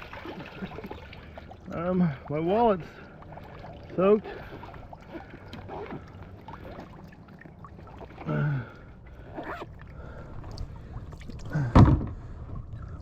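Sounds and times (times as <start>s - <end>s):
low rumble of wind: 0.0s - 13.0s
water rumbling: 0.0s - 13.0s.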